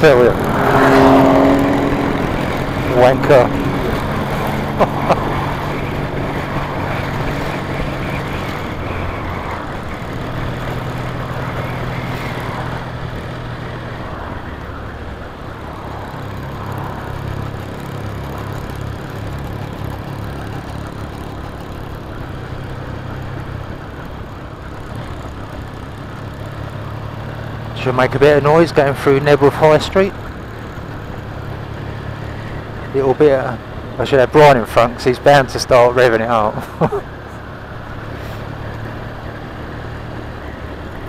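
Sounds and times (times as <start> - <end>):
motorcycle engine cruising: 0.0 - 41.0
wind and road noise: 0.0 - 41.0.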